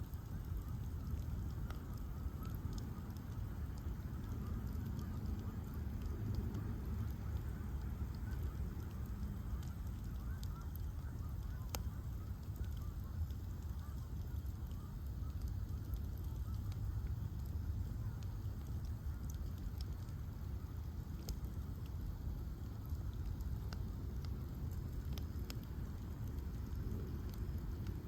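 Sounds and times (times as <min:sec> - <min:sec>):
bonfire rumble and crackles: 0:00.0 - 0:28.0.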